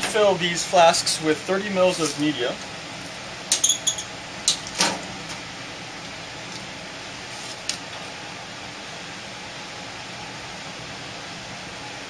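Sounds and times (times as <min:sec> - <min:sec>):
cabinet blower airflow hiss: 0:00.0 - 0:12.0.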